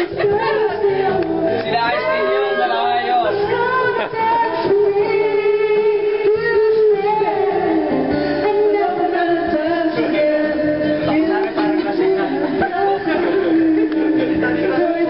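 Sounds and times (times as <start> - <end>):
music backing track: 0.0 - 15.0
person singing into a microphone: 0.0 - 15.0.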